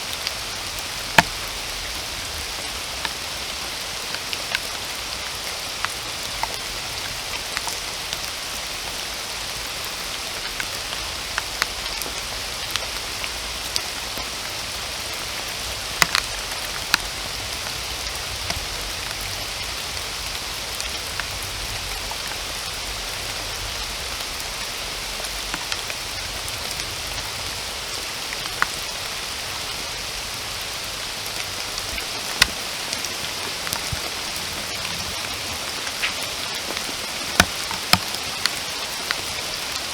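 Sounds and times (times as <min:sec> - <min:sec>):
heavy raindrops clicking: 0:00.0 - 0:39.9
steady rain hissing: 0:00.0 - 0:39.9.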